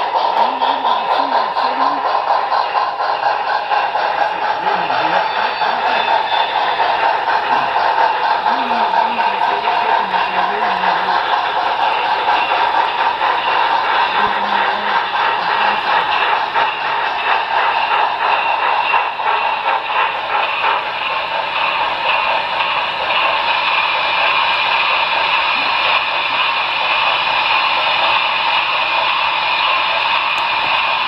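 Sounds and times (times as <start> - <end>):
model train wheels clicking: 0.0 - 31.0
train rolling hiss: 0.0 - 31.0.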